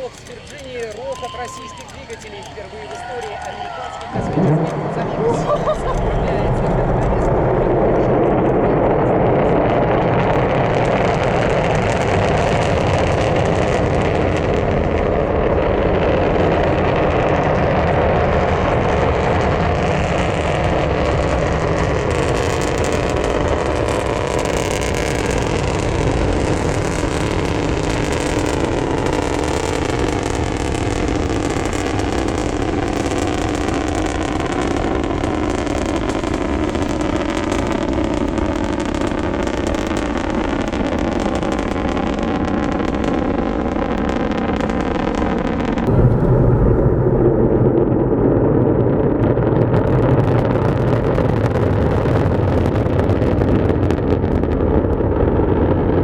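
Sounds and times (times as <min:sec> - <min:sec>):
distant rocket engines roaring: 0:00.0 - 0:56.0
rocket crackling: 0:00.0 - 0:56.0.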